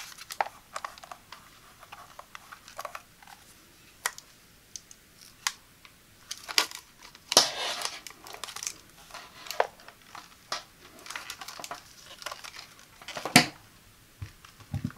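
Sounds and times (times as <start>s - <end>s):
plastic sheet crinkling: 0.0s - 5.6s, 6.2s - 13.6s.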